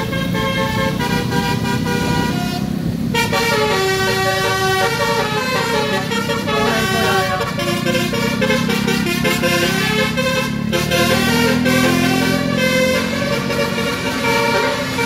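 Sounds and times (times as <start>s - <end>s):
musical bus horn playing a tune: 0.0s - 15.0s
traffic engine and road noise: 0.0s - 15.0s.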